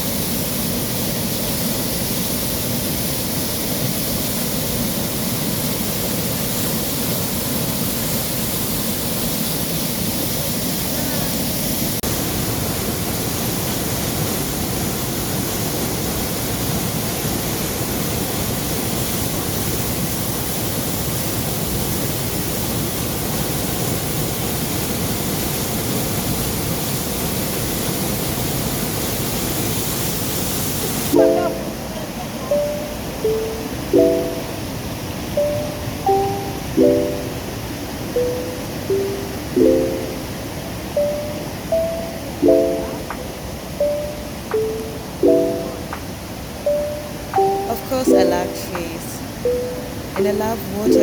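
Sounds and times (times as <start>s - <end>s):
rushing water: 0.0s - 51.0s.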